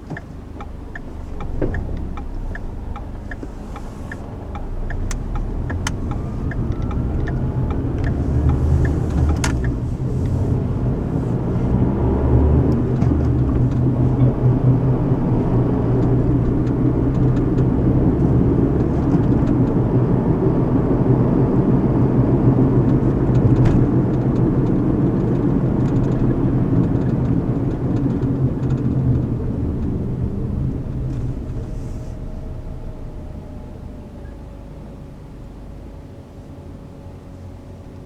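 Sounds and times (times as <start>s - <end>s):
car cabin road rumble: 0.0s - 38.0s.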